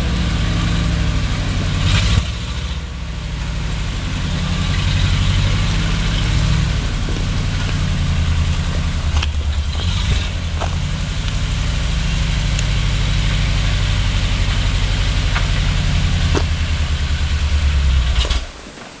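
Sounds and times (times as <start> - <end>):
engine idling: 0.0 - 18.6.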